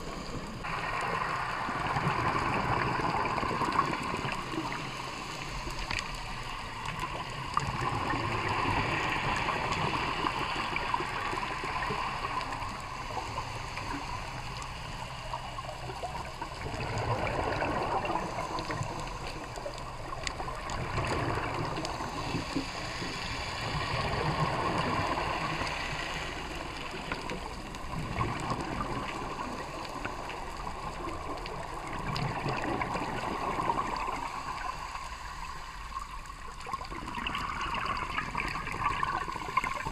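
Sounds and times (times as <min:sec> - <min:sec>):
dull underwater wash: 0:00.0 - 0:39.9
underwater exhaled bubbles gurgling: 0:00.0 - 0:39.9.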